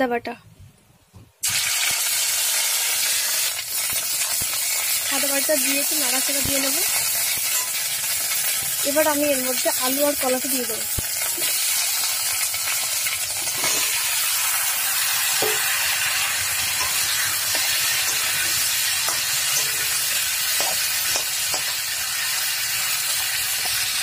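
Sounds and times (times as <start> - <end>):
vegetables sizzling in hot oil: 1.4 - 24.0.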